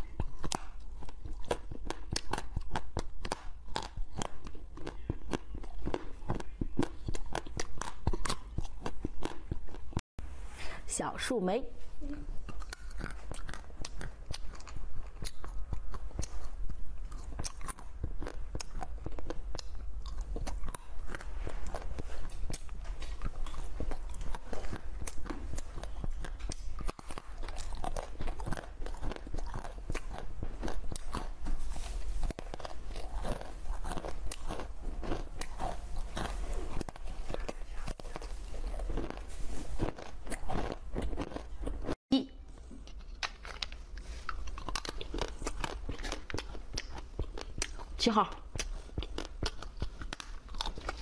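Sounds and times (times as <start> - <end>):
person chewing crunchy candies: 0.0 - 10.0, 12.0 - 51.0.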